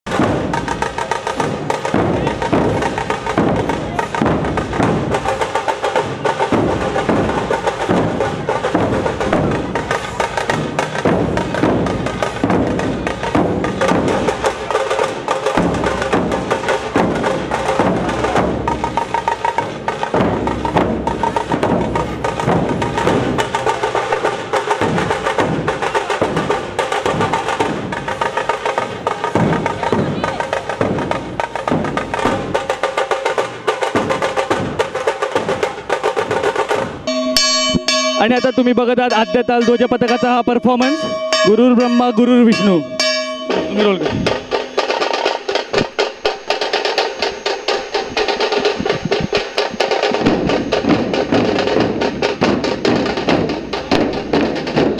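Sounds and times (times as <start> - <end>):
drum troupe drumming: 0.1 - 54.9.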